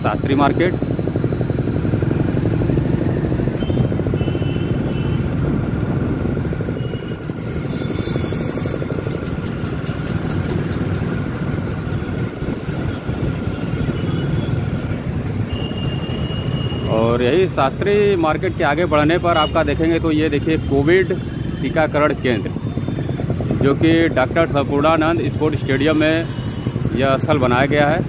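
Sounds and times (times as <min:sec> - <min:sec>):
motorcycle engine running: 0:00.0 - 0:28.0
street traffic: 0:00.0 - 0:28.0.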